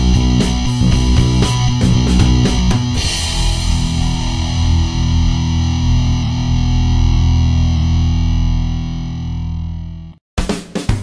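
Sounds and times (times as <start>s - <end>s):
distorted electric guitar chord: 0.0s - 10.2s.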